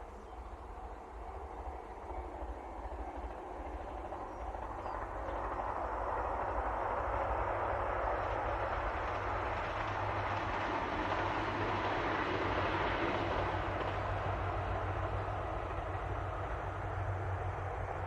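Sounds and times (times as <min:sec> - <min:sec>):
diesel train rumbling on rails: 0:00.0 - 0:18.0.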